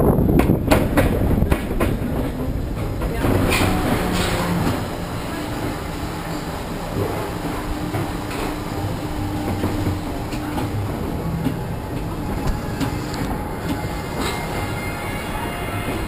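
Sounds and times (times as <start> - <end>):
roller coaster car rumbling: 0.0 - 16.0.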